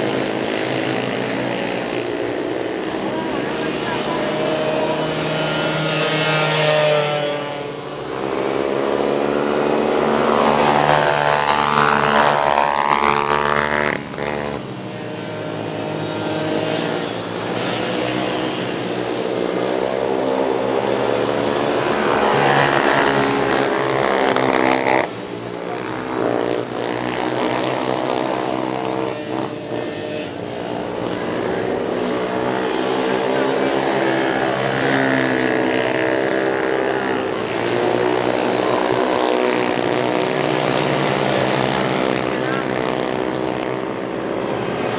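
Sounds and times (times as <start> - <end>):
quad bike engines revving: 0.0 - 44.9.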